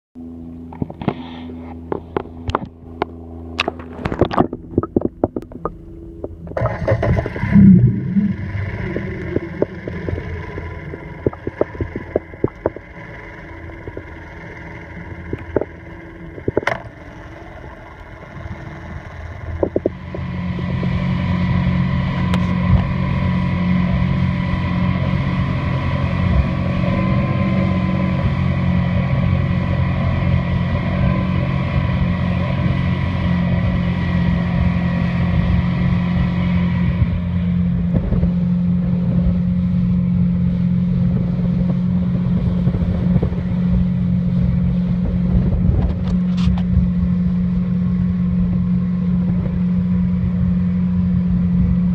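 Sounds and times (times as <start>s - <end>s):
outboard motor running: 0.2s - 51.9s.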